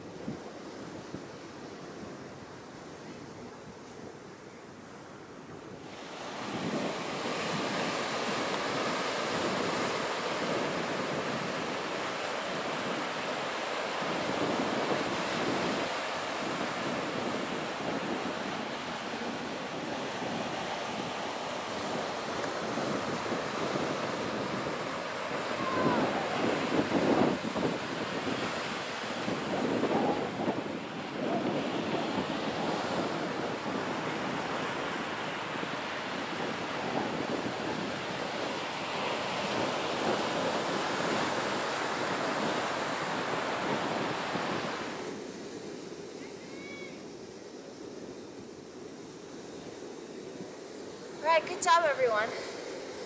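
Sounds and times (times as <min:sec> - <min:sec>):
wind buffeting microphone: 0:00.0 - 0:46.9
ocean surf washing in: 0:00.0 - 0:53.0.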